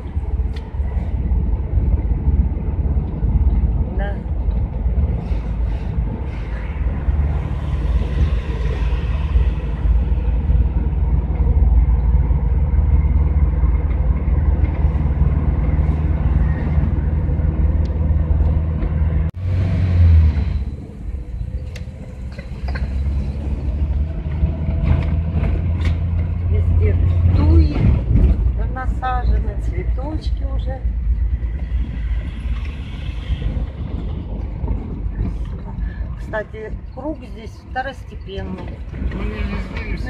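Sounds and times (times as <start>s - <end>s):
van engine and road rumble: 0.0s - 40.0s.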